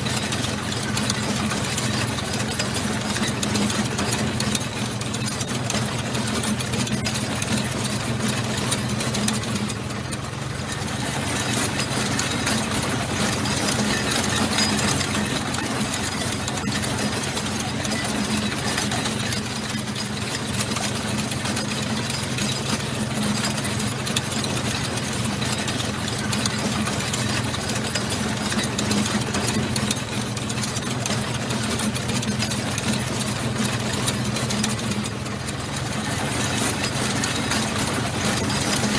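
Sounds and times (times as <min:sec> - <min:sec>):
dense continuous track rattle: 0:00.0 - 0:38.9
tank engine running: 0:00.0 - 0:38.9.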